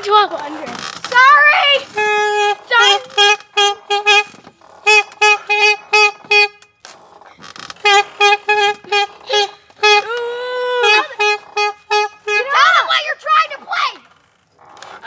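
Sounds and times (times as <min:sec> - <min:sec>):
saxophone short choppy notes: 0:00.4 - 0:15.0.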